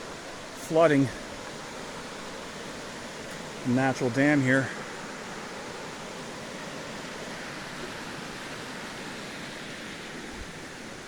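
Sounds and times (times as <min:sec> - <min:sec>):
stream rushing over a dam: 0:00.0 - 0:11.0.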